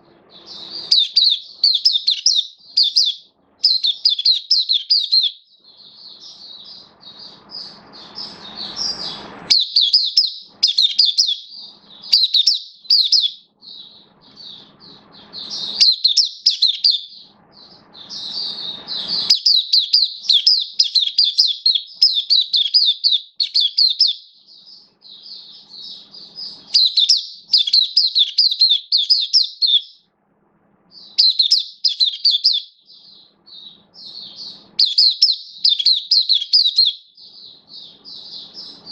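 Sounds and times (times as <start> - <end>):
bird twittering song: 0.0 - 30.1, 30.8 - 38.9.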